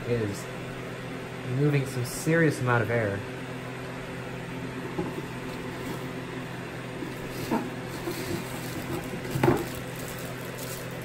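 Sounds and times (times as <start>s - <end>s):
fan rushing air over hum: 0.0s - 11.0s.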